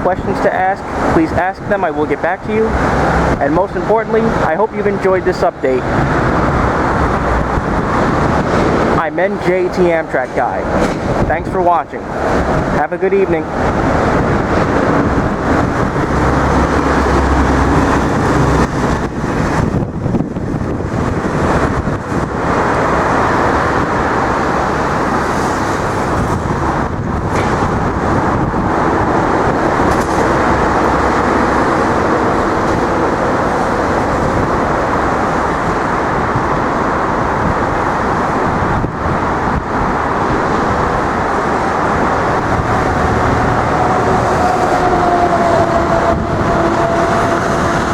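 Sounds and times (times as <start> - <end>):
vehicle rumble: 0.0 - 47.9.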